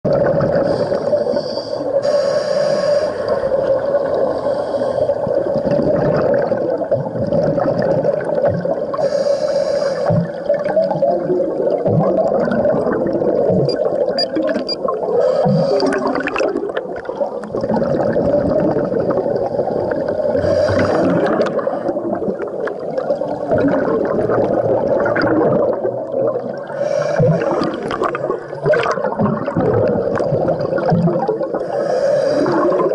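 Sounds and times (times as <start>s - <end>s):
underwater air bubbling: 0.0s - 32.9s.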